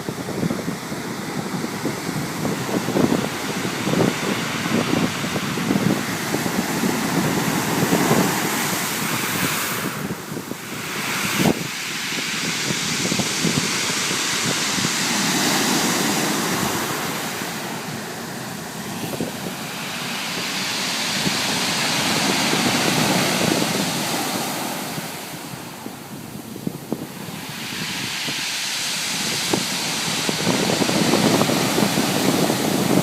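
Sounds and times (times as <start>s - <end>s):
waves surging on a beach: 0.0s - 33.0s.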